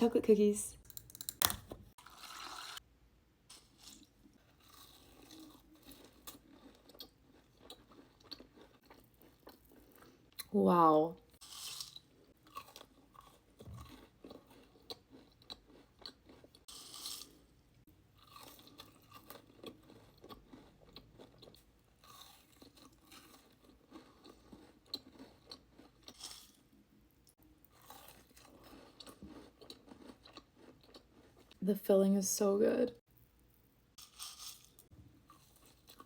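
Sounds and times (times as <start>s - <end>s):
crunchy cookie chewing: 3.5s - 10.5s, 11.3s - 31.6s, 33.1s - 36.0s.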